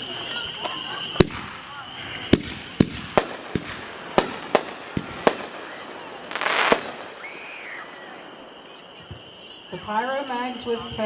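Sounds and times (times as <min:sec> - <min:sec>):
firework bangs: 0:00.0 - 0:11.0
firework crackling burst: 0:00.0 - 0:11.0.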